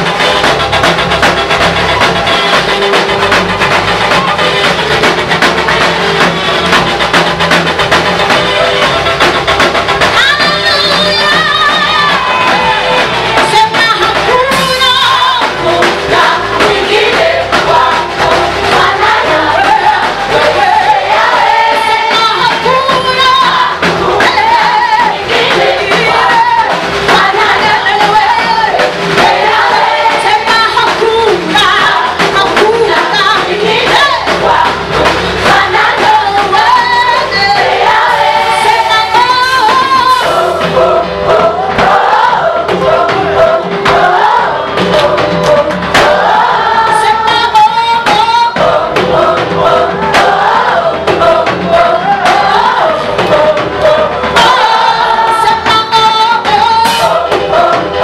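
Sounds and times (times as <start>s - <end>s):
band with steady beat: 0.0s - 58.0s
choir singing gospel: 0.0s - 58.0s.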